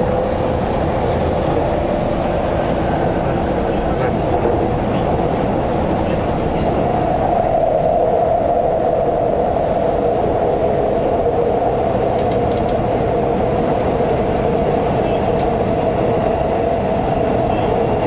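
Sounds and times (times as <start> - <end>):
train rumbling through tunnel: 0.0 - 18.0.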